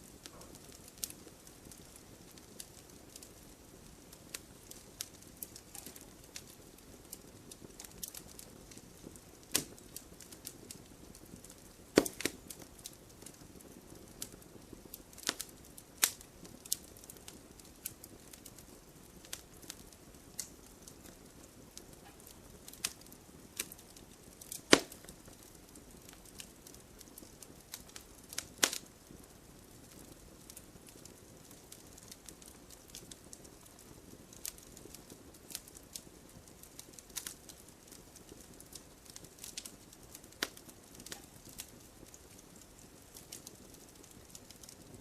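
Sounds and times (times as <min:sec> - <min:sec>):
low hiss: 0:00.0 - 0:45.0
wood fire crackling: 0:00.0 - 0:45.0.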